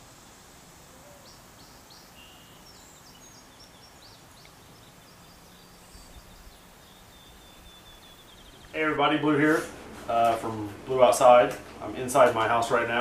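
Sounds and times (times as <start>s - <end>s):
faint birds chirping: 0.0s - 13.0s
steady low hiss: 0.0s - 13.0s.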